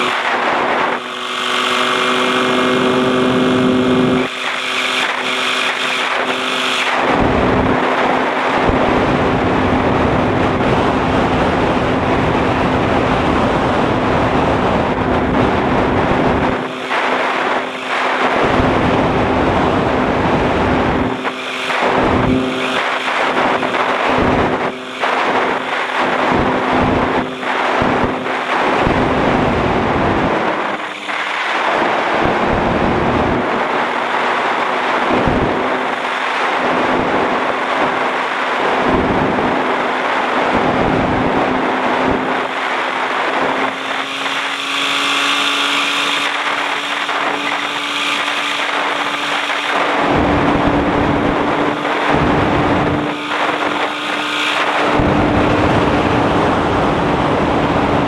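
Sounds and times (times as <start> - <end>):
small aircraft engine droning: 0.0 - 58.0
wind buffeting microphone: 0.0 - 58.0.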